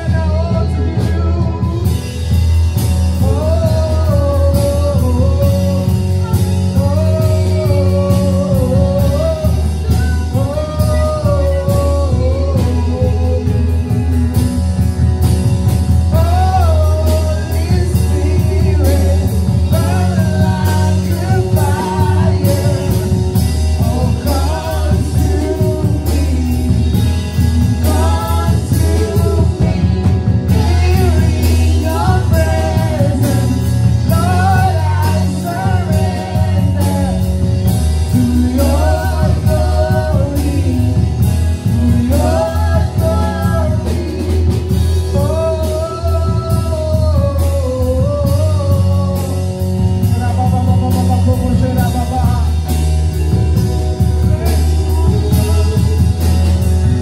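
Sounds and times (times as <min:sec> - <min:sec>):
person singing: 0:00.0 - 0:14.9, 0:15.8 - 0:52.8, 0:54.0 - 0:57.0
worship band playing: 0:00.0 - 0:57.0.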